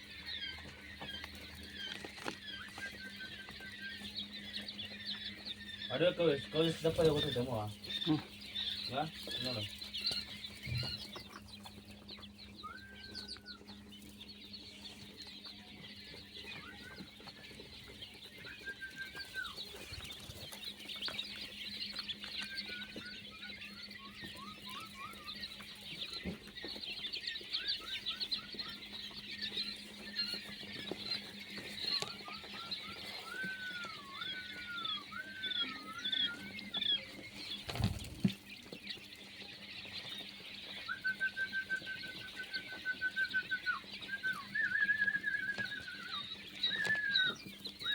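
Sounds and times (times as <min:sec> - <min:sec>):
quail chirping and peeping: 0:00.0 - 0:47.9
quail whistled calls: 0:00.0 - 0:47.9.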